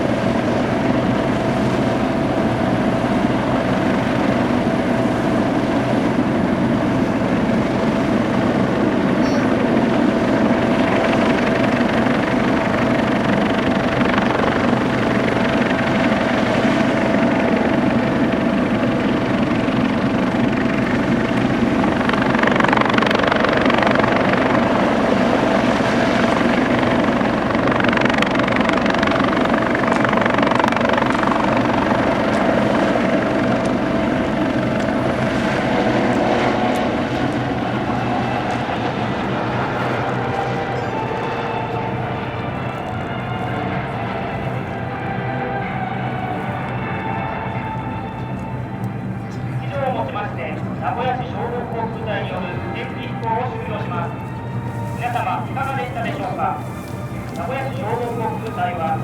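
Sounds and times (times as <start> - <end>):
helicopter rotor and turbine whine: 0.0 - 59.0.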